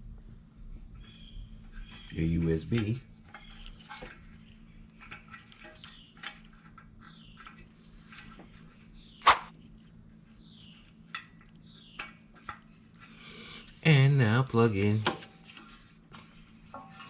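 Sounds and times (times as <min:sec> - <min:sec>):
birds chirping: 0:00.9 - 0:15.0.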